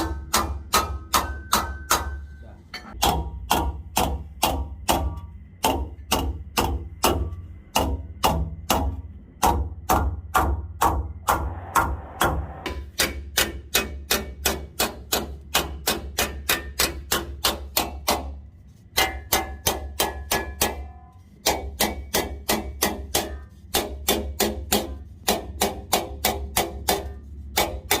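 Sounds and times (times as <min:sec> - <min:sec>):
hammer beating sheet metal: 0:00.0 - 0:28.0.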